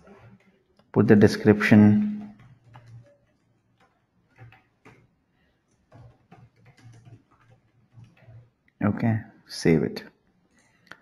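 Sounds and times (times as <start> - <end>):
faint keyboard typing: 0.0 - 9.4, 10.2 - 11.0.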